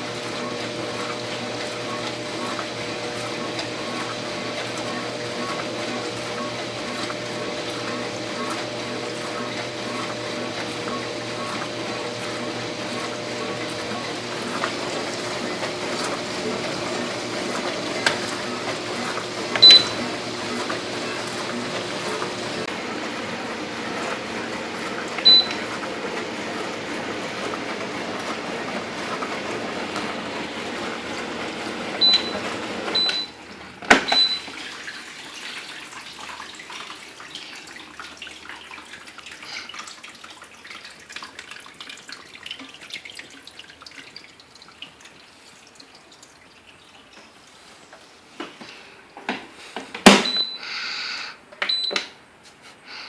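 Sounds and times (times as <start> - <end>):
dishwasher water spraying: 0.0 - 46.1.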